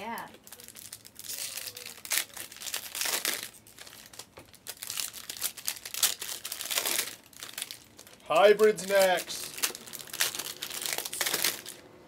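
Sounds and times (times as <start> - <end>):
plastic wrapping crinkling: 0.0 - 11.8.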